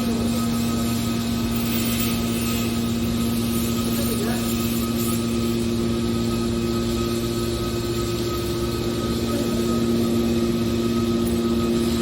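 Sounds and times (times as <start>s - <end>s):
hydraulic baler power unit humming: 0.0s - 4.5s, 5.2s - 12.0s.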